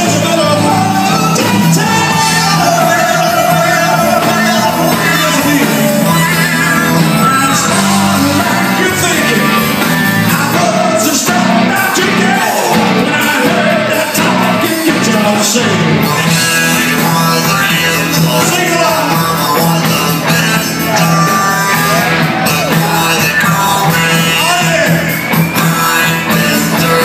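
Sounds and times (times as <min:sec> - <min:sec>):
live rock band playing: 0:00.0 - 0:27.0
man singing into a microphone: 0:00.0 - 0:27.0.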